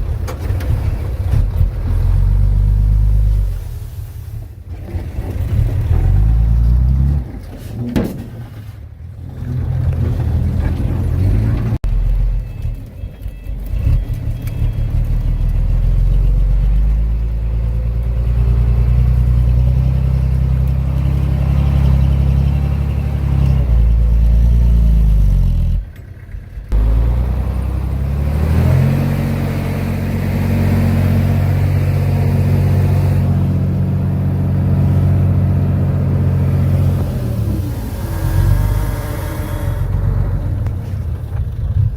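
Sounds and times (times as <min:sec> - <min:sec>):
heavy diesel engine under load: 0:00.0 - 0:41.9.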